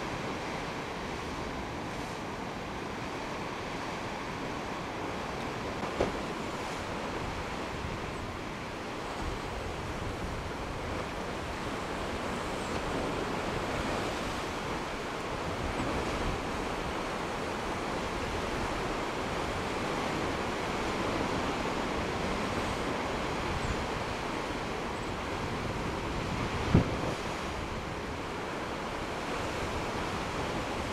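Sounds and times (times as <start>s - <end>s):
wind on microphone: 5.7s - 30.9s.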